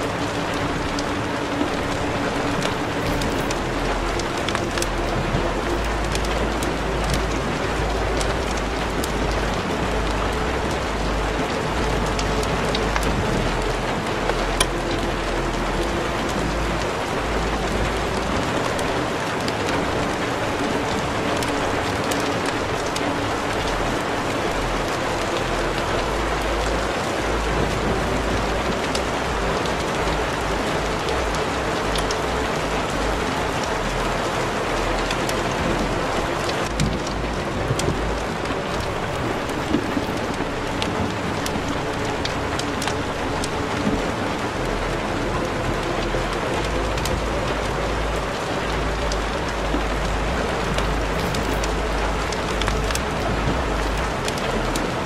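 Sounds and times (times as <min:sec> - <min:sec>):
crackles and clicks: 0:00.0 - 0:55.0
rain-like hiss: 0:00.0 - 0:55.0.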